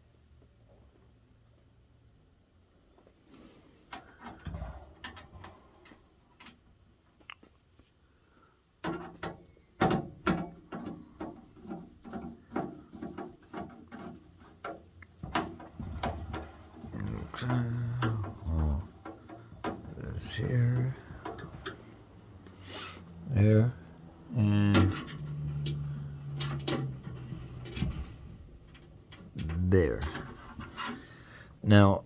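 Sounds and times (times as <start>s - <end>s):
parts clicking and knocking: 3.8s - 7.6s, 8.8s - 31.3s.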